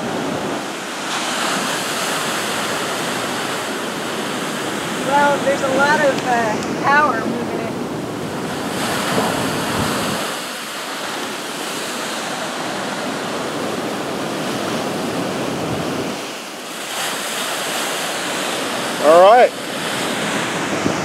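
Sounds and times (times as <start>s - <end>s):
rough surf crashing: 0.0s - 21.0s
wind rumbling on microphone: 0.0s - 21.0s.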